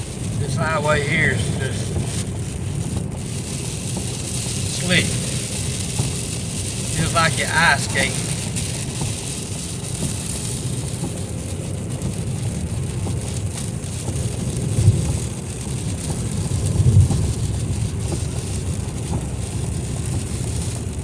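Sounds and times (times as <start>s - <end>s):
road rumble inside car: 0.0s - 21.0s
tyres hissing on wet pavement: 0.0s - 21.0s.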